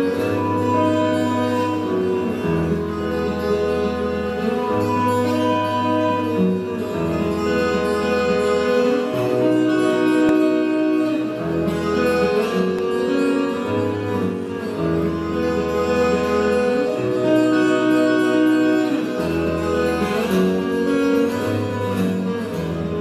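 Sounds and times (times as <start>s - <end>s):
fingerstyle acoustic guitar: 0.0s - 23.0s.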